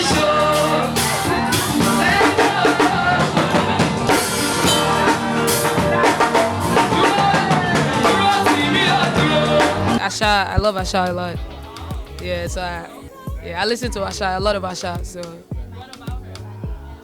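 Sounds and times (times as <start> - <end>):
afrobeats music with drum beat: 0.0 - 17.0.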